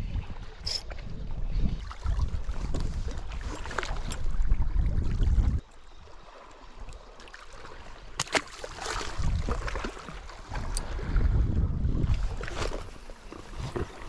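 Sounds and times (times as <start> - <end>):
wind buffeting microphone: 0.0 - 6.1, 8.8 - 14.0.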